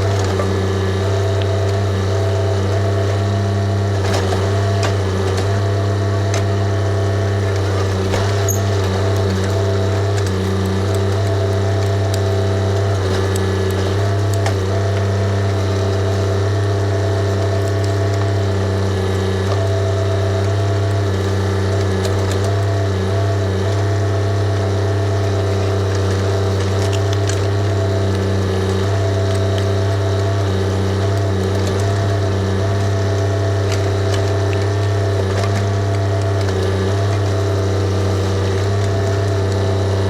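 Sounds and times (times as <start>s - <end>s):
tractor diesel engine humming: 0.0s - 40.0s.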